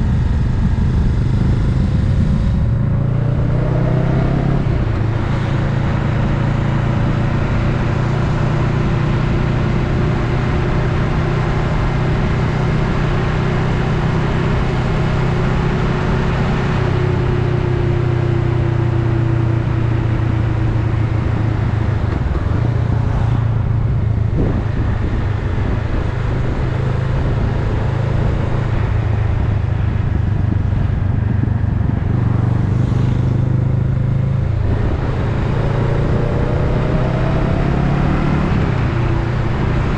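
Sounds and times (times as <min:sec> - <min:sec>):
motorcycle engine running: 0:00.0 - 0:35.5
wind and road noise: 0:00.0 - 0:39.9.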